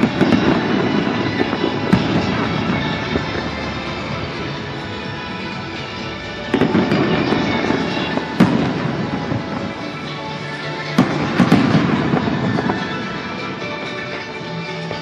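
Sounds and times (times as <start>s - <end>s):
fireworks bangs and crackling: 0.0s - 15.0s
steady music: 0.0s - 15.0s.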